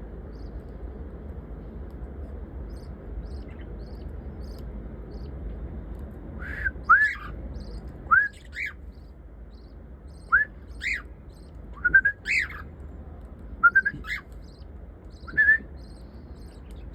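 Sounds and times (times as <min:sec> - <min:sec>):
small birds chirping: 0:00.0 - 0:00.9, 0:02.6 - 0:05.6, 0:06.4 - 0:16.9.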